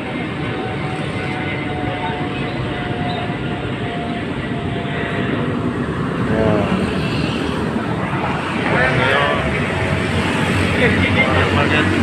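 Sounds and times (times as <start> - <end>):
busy road traffic roar: 0.0 - 12.0.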